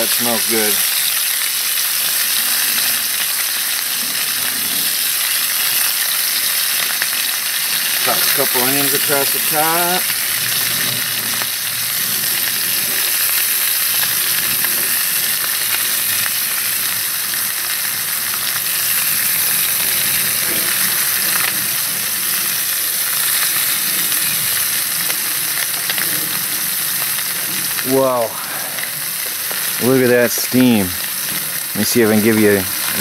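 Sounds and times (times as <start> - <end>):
food sizzling in a hot wok: 0.0 - 33.0.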